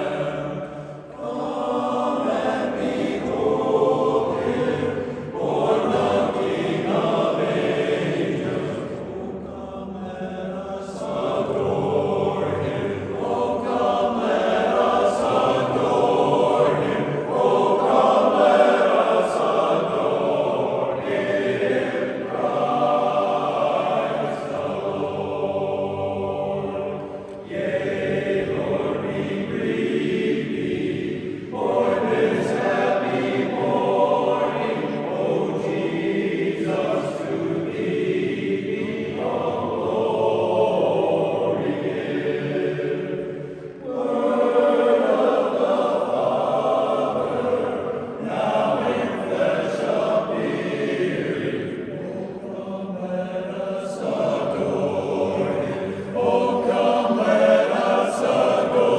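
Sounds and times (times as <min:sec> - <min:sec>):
a cappella chorus singing: 0:00.0 - 0:58.9.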